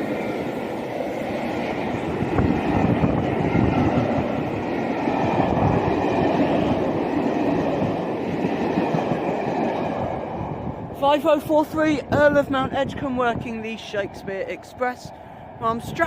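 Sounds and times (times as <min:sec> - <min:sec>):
steam train running past: 0:00.0 - 0:16.0.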